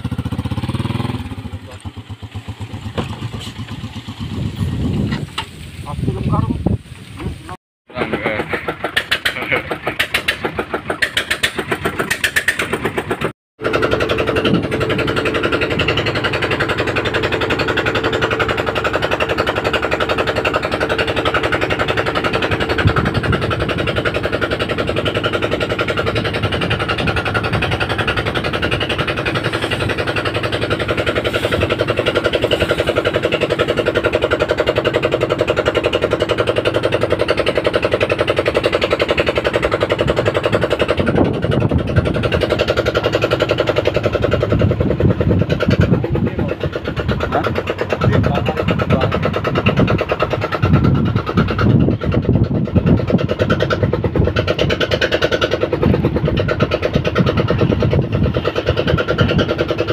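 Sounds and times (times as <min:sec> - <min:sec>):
boat engine chugging: 0:00.0 - 0:06.6, 0:07.3 - 0:59.9.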